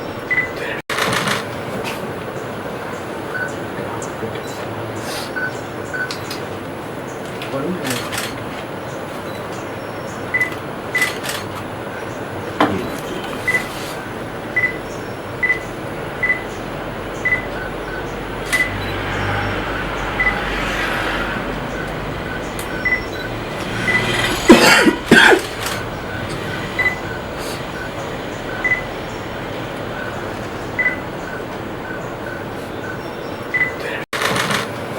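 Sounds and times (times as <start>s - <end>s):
birds calling with clear notes: 1.9s - 20.8s, 21.4s - 34.0s.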